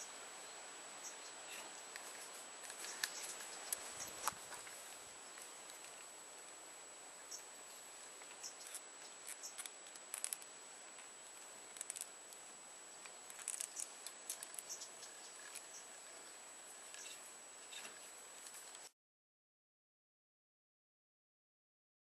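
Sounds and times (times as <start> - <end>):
background hiss: 0.0 - 19.0
faint high whine: 0.0 - 19.0.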